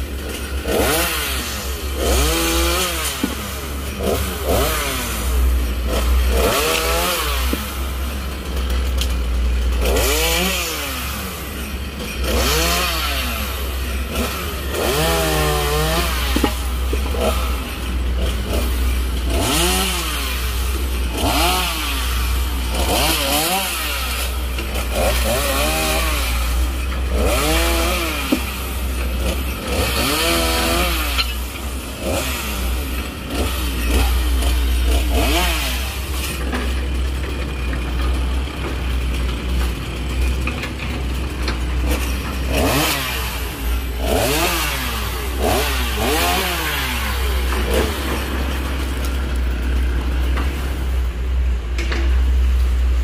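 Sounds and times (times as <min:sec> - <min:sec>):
chainsaw revving: 0:00.0 - 0:51.3.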